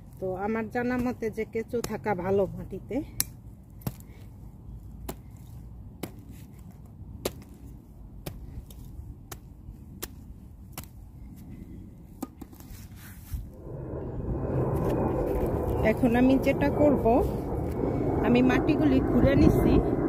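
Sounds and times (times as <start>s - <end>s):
aircraft rumble overhead: 0.0s - 20.0s.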